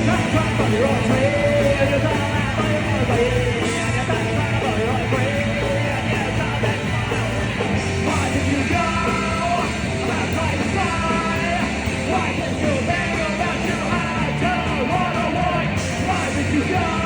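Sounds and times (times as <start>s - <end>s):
punk rock band playing: 0.0s - 17.0s.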